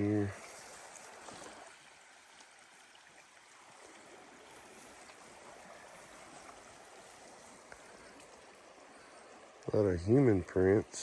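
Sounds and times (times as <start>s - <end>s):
distant running water: 0.0s - 11.0s.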